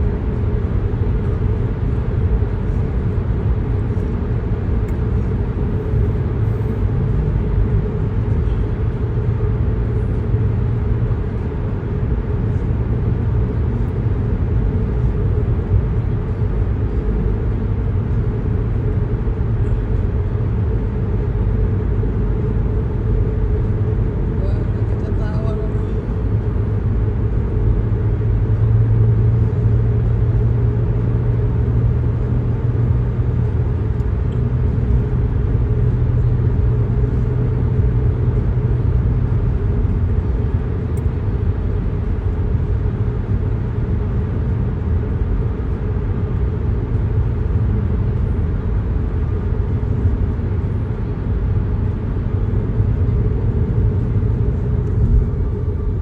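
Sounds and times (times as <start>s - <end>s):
vehicle rumble: 0.0s - 56.0s.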